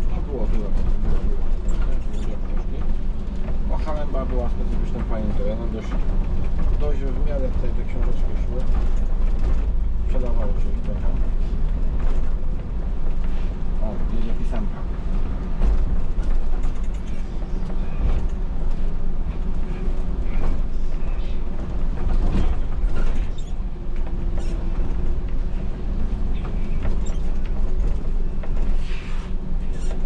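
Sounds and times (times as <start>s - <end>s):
bodywork creaks and rattles: 0.0s - 30.0s
bus engine and road rumble: 0.0s - 30.0s.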